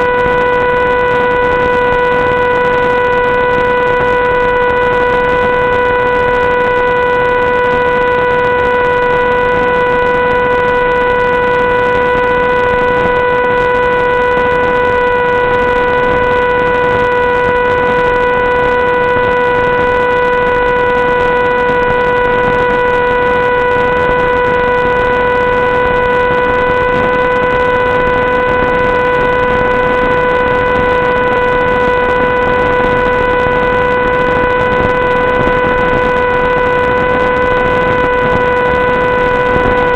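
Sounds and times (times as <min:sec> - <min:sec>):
electrical buzz: 0:00.0 - 0:39.9.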